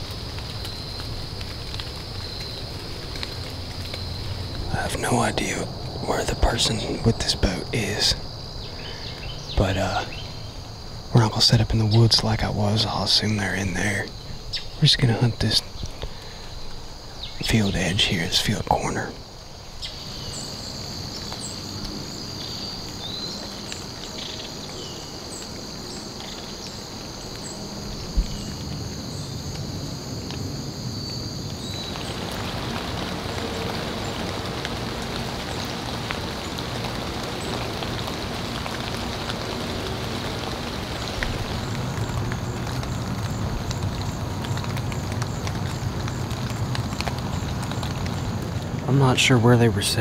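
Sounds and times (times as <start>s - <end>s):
high insect drone: 0.0s - 50.0s
rain on trees and leaves: 0.0s - 50.0s.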